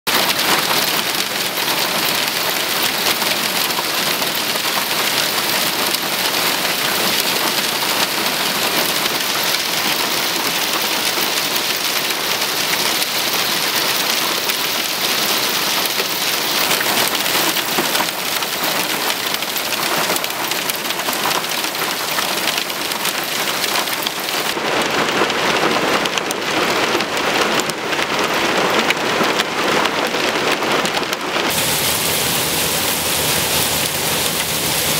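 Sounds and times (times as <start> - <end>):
hail and heavy rain on pavement: 0.1 - 34.9.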